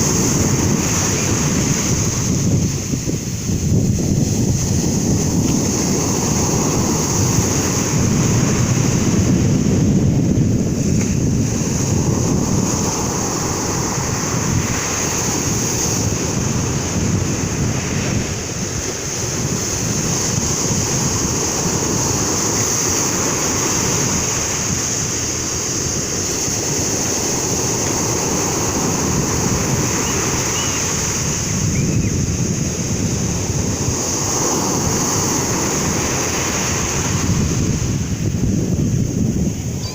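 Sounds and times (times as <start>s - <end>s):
sea waves breaking: 0.0s - 39.9s
wind buffeting microphone: 0.0s - 39.9s.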